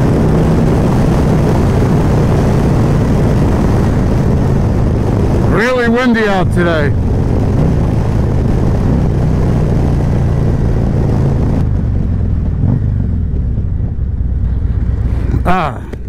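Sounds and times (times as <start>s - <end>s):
motorcycle engine slowing: 0.0s - 16.0s
wind on microphone: 0.0s - 16.0s.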